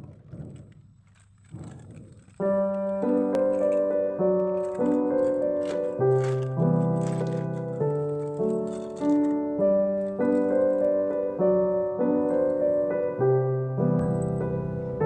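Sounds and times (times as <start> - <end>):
gentle piano melody: 2.3 - 15.0.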